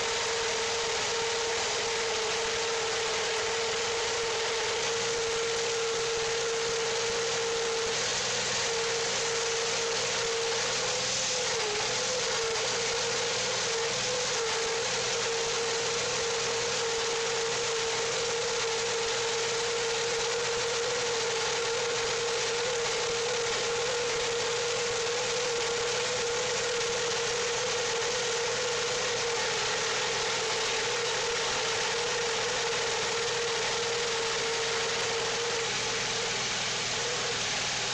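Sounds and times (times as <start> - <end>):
band sawmill running: 0.0 - 37.9.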